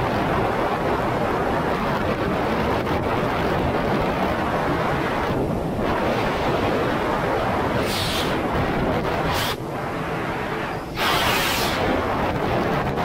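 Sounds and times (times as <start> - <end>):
jet ski hull and water noise: 0.0 - 13.0
wind buffeting microphone: 0.0 - 13.0.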